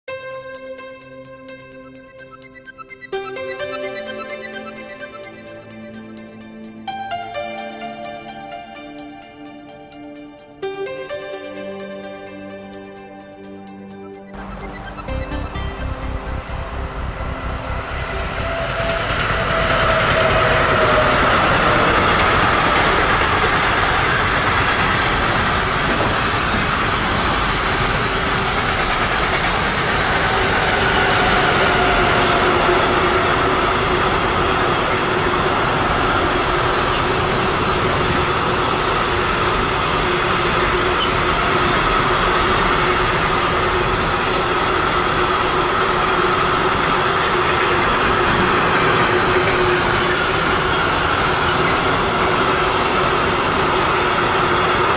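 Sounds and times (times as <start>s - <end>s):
freight train wheels rumbling: 0.1s - 54.9s.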